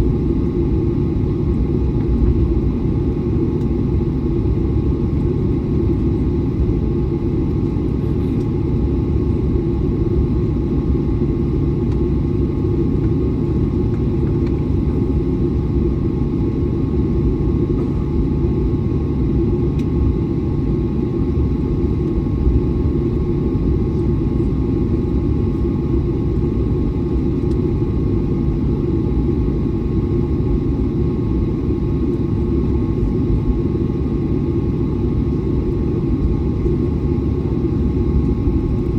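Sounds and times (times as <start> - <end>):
jet engine and airflow rumble: 0.0 - 38.9.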